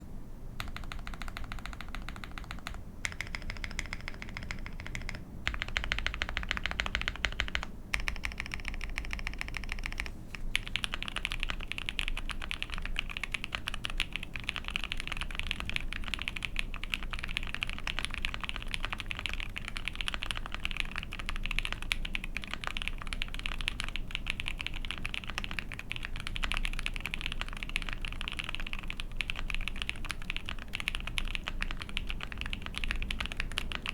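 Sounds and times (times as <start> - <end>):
typing on mechanical keyboard: 0.6 - 33.9.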